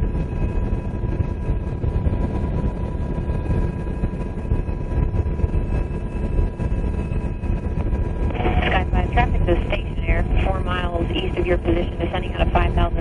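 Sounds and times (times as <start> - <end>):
helicopter rotor and turbine noise: 0.0 - 13.0.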